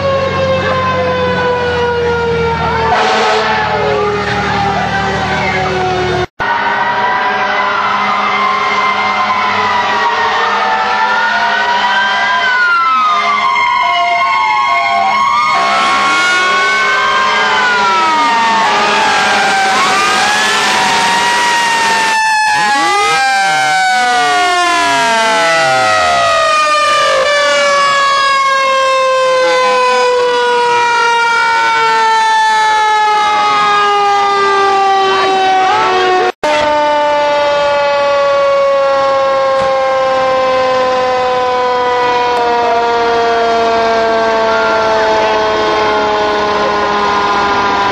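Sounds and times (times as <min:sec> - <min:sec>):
fire truck sirens wailing: 0:00.0 - 0:47.9.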